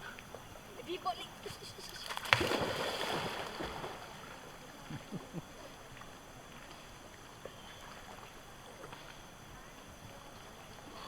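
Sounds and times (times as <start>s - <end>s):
river water washing: 0.0s - 9.3s.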